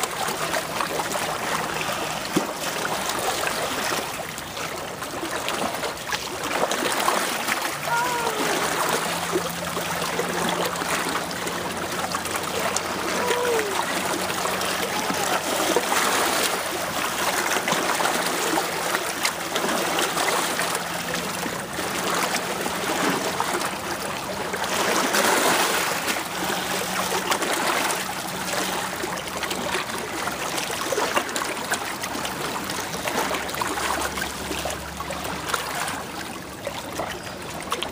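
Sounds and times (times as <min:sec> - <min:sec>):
waves lapping on rocks: 0:00.0 - 0:37.9.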